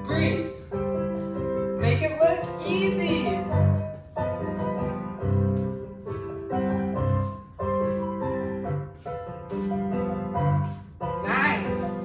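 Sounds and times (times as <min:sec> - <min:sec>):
jazz piano music: 0:00.0 - 0:12.0.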